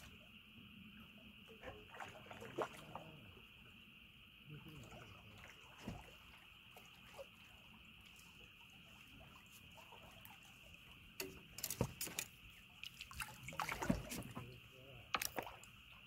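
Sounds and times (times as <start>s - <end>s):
chorus of night animals: 0.0s - 16.0s.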